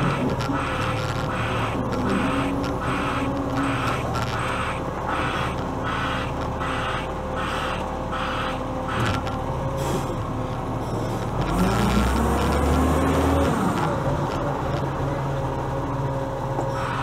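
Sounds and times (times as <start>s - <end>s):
diesel truck engine revving: 0.0s - 17.0s.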